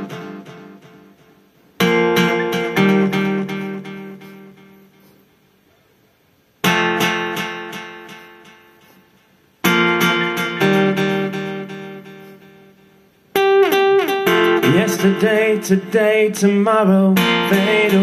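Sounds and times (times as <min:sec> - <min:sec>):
acoustic guitar strumming: 0:00.0 - 0:05.5, 0:06.6 - 0:18.0.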